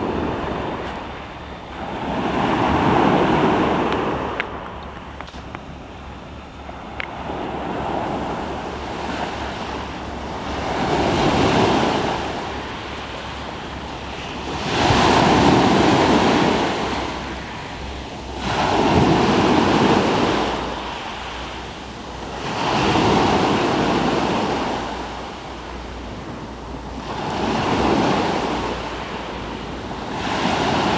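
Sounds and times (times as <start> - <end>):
sea waves breaking: 0.0 - 30.9
wind buffeting microphone: 0.0 - 30.9.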